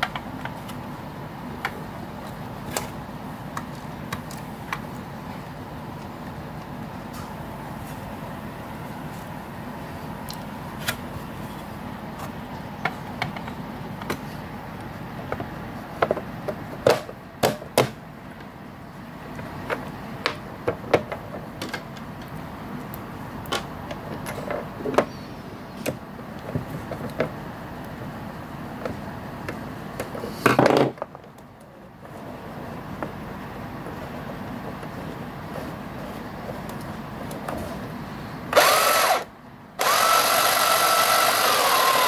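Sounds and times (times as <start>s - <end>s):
low background noise: 0.0s - 42.0s.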